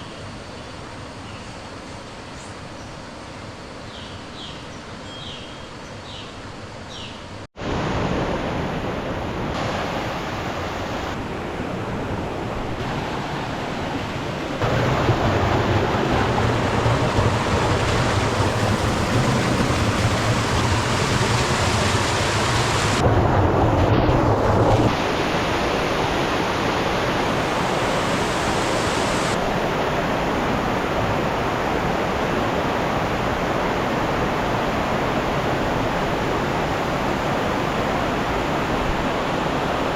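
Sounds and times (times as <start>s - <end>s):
waterfall rushing: 7.6s - 39.9s.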